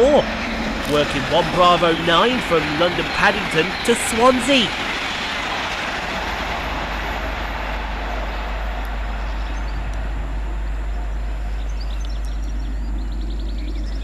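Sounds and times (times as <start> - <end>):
birds chirping: 0.0 - 5.8, 8.3 - 14.0
train passing at speed: 0.0 - 12.0.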